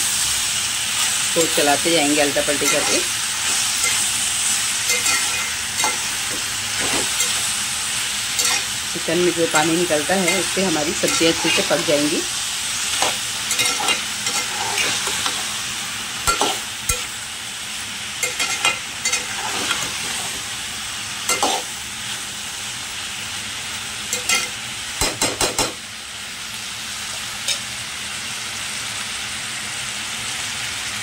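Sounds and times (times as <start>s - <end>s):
food sizzling in a pot: 0.0s - 31.0s.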